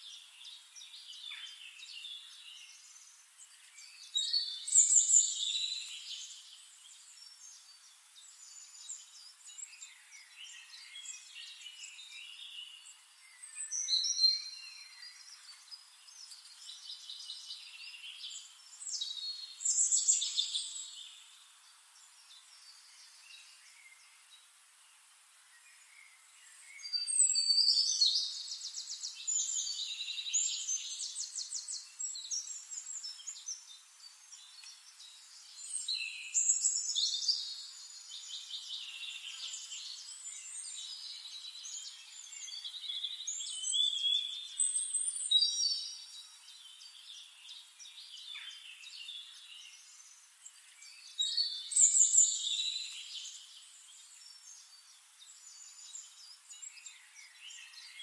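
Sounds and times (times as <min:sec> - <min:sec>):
songbirds singing trills and chirps: 0:00.0 - 0:58.0.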